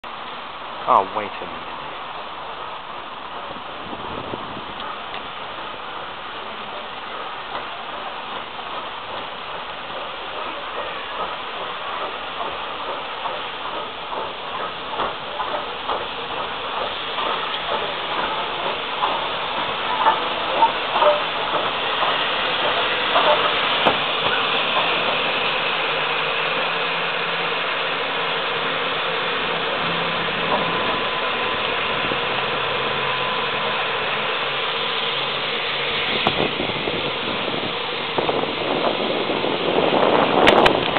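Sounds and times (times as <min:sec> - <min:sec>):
steam hissing: 0:00.1 - 0:40.9
steam locomotive rods clanking: 0:04.6 - 0:40.9.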